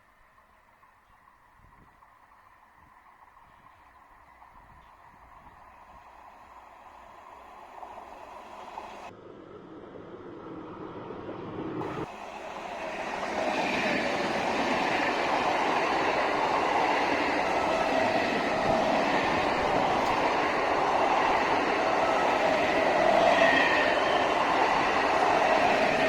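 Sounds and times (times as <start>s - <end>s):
rumble of train wheels: 0.0s - 26.0s
train whine: 0.0s - 26.0s.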